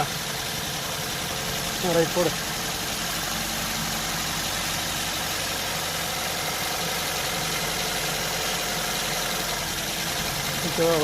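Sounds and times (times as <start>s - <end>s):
car engine idling with misfire: 0.0s - 11.0s.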